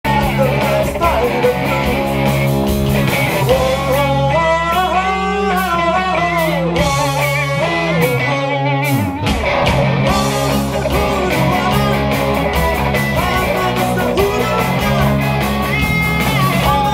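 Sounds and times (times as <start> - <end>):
bending lead guitar line: 0.0 - 16.9
live rock band playing: 0.0 - 16.9.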